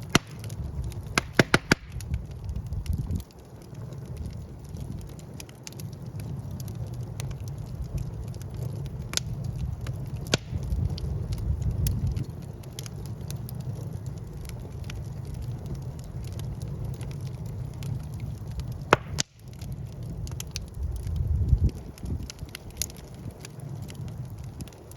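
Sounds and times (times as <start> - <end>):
fire flames rumbling: 0.0 - 24.9
logs crackling: 0.0 - 24.9
sharp fire pops: 0.0 - 24.9.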